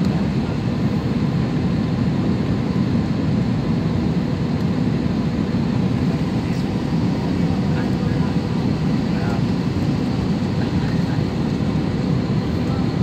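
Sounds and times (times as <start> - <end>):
airliner cabin engine and airflow noise: 0.0 - 13.0.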